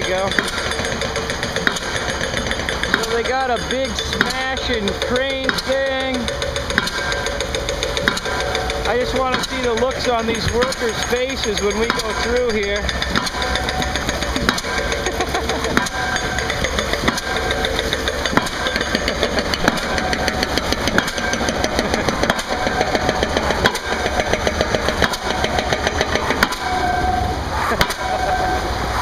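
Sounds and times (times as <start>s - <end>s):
fast steady knocking: 0.0s - 27.0s
diesel engine running: 0.0s - 29.0s.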